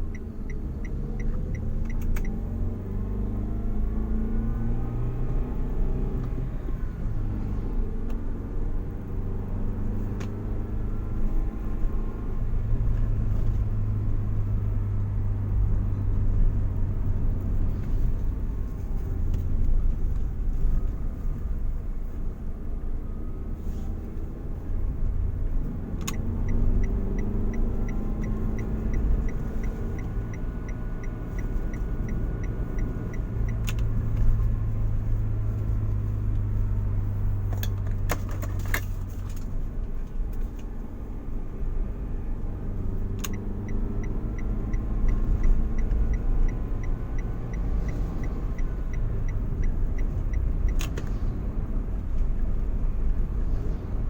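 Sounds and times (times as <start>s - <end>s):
turn signal ticking: 0.0s - 7.3s, 8.0s - 54.0s
car engine and road rumble: 0.0s - 54.0s.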